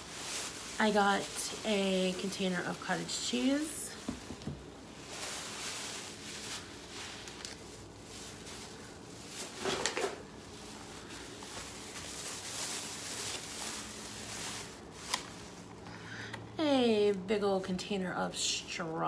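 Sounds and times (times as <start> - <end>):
plastic bags rustling and crinkling: 0.0 - 16.1.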